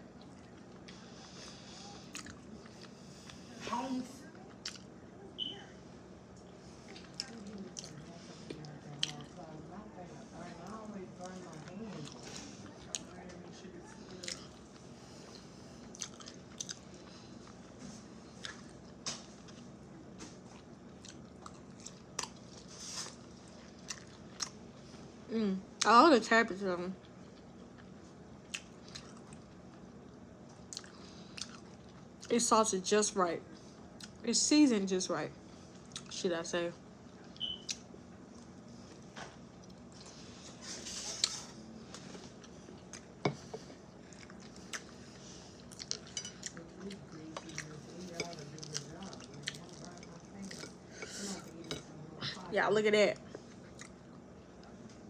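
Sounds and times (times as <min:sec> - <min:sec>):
soft chewing: 0:00.0 - 0:25.9, 0:27.0 - 0:32.4, 0:33.5 - 0:34.2, 0:35.3 - 0:52.5, 0:53.2 - 0:55.0.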